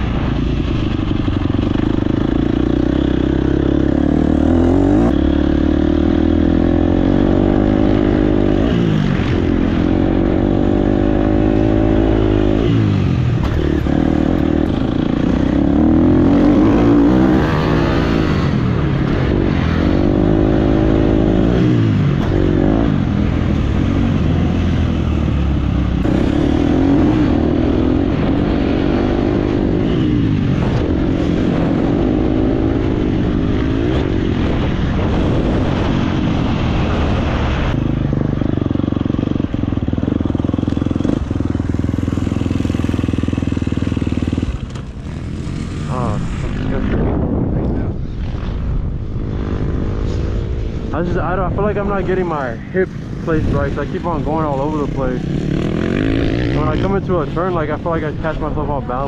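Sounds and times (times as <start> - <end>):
dirt bike engine revving: 0.0 - 48.6, 49.2 - 59.0.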